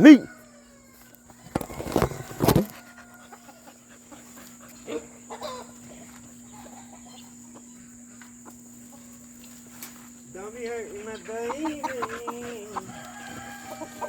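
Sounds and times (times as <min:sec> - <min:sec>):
faint chicken clucks: 0:00.0 - 0:14.0.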